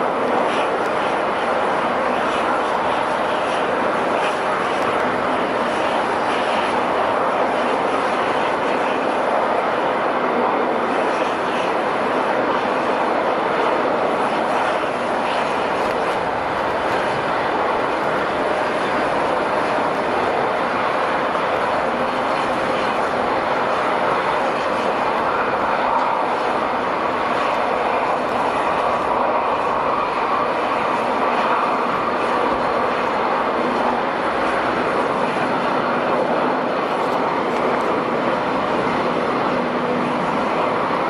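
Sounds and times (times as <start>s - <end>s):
jet engine rushing: 0.0s - 41.0s.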